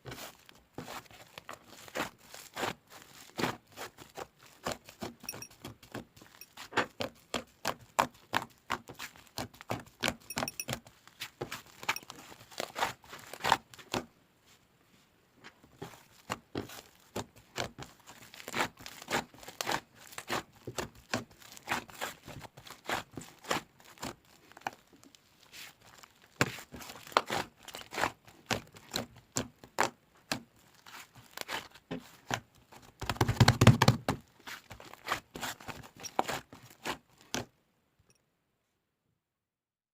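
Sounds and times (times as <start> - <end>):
hands squishing slime: 0.0 - 14.1, 15.8 - 37.5.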